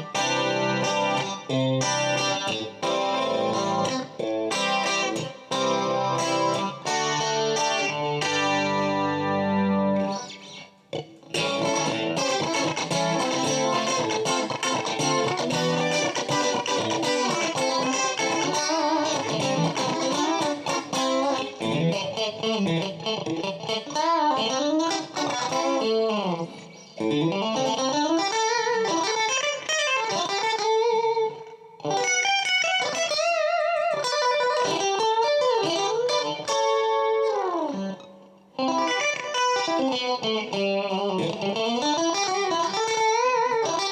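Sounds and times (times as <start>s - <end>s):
clean electric guitar lead: 0.0s - 43.9s.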